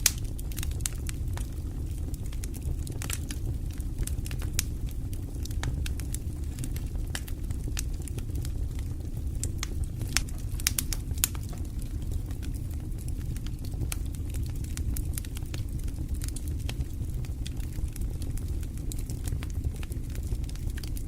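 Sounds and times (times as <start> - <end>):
fire flames rumbling: 0.0 - 21.0
wood crackling and popping: 0.0 - 21.0.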